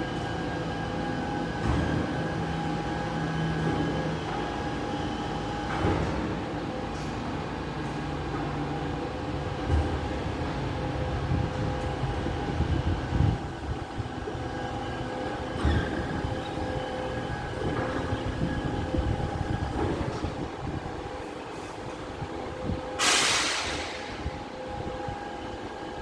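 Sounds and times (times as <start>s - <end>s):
garbage truck whine: 0.0s - 26.0s.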